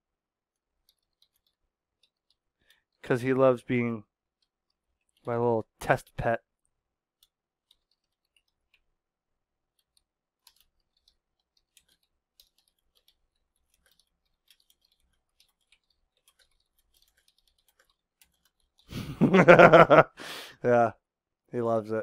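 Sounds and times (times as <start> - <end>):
keyboard typing: 0.5 - 3.5, 4.3 - 20.0.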